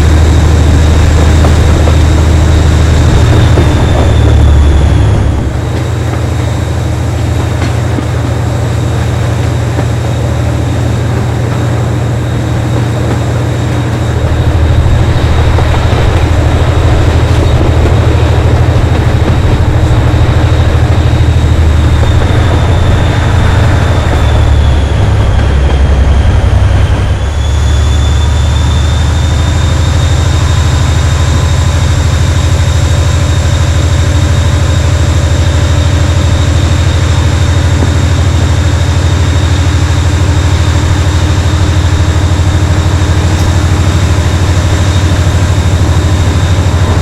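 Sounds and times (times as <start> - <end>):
diesel locomotive engine throbbing: 0.0 - 47.0
steady high whine: 0.0 - 47.0.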